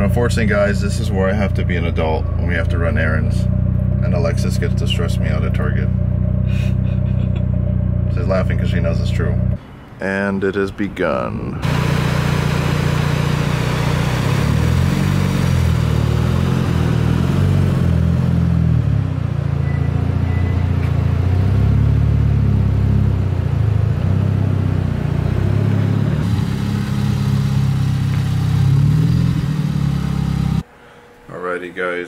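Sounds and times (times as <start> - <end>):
car engine at low revs: 0.0 - 9.6, 11.6 - 30.8.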